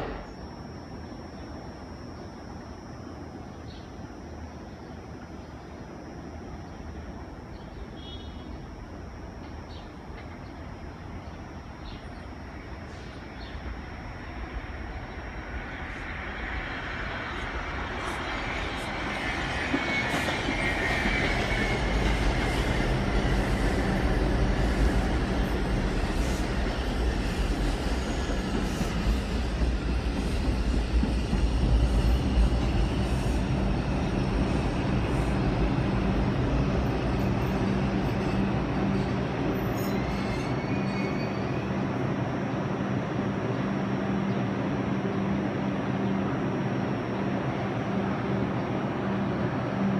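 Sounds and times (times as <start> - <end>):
subway train running: 0.0 - 49.9.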